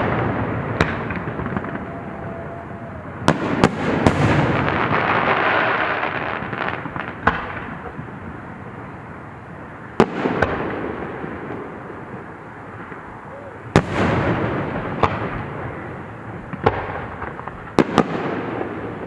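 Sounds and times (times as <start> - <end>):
fireworks bangs: 0.0 - 19.0
fireworks crackle: 0.0 - 19.0.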